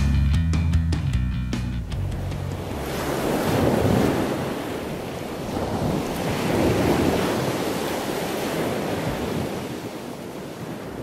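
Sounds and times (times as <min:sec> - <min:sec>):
surf washing on sandy beach: 0:02.1 - 0:11.0.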